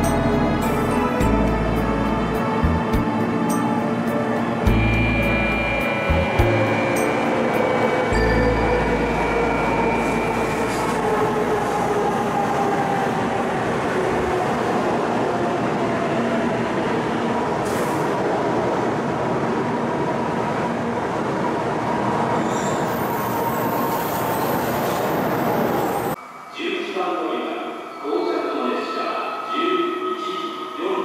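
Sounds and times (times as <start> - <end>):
high-speed train rushing past: 0.0 - 31.0.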